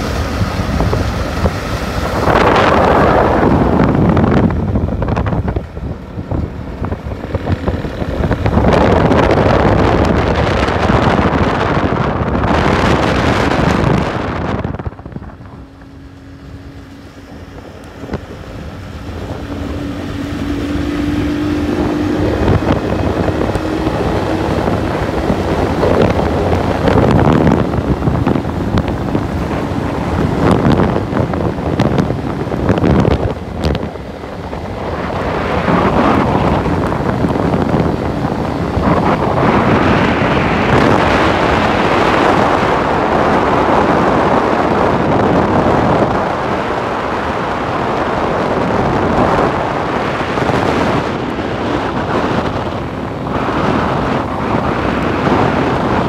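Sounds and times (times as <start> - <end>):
vehicle ride rush: 0.0 - 56.0
wind buffeting microphone: 0.0 - 56.0.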